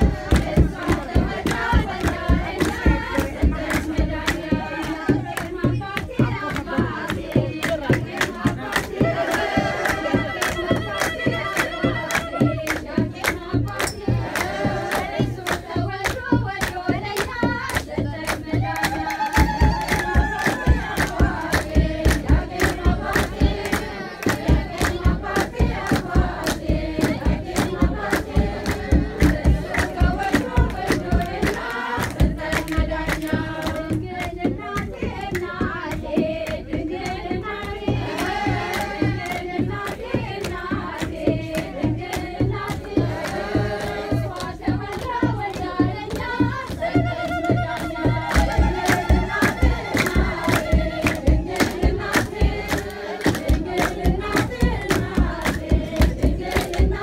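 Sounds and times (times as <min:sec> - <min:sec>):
drum beat: 0:00.0 - 0:57.0
rhythmic hand clapping: 0:00.0 - 0:57.0
women singing a hymn: 0:00.0 - 0:57.0.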